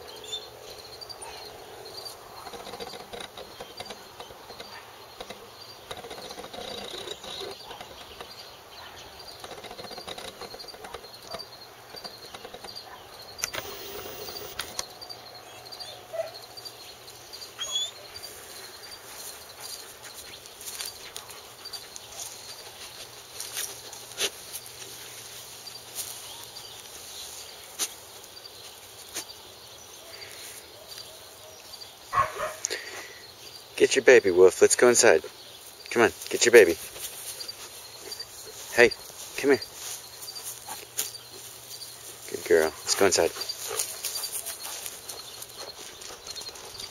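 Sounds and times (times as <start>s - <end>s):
faint insect chirp: 0.0s - 46.9s.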